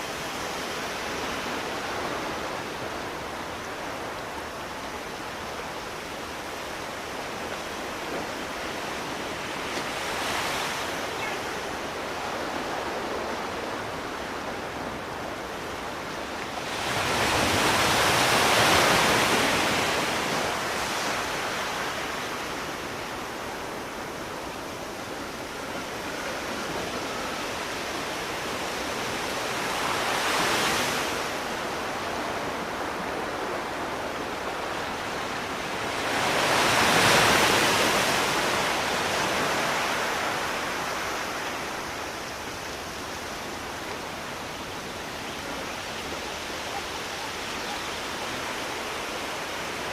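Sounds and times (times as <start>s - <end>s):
sea waves washing onto shore: 0.0s - 49.9s.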